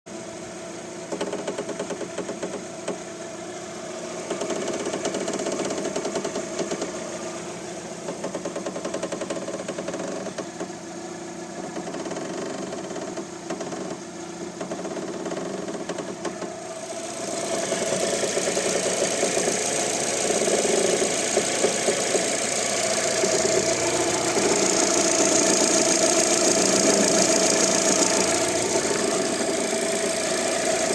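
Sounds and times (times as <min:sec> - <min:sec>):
car engine running: 0:00.1 - 0:30.9
suspension creaking and knocking: 0:01.1 - 0:03.0, 0:04.2 - 0:07.0, 0:08.0 - 0:10.8, 0:11.7 - 0:14.0, 0:14.6 - 0:16.6, 0:17.5 - 0:30.9.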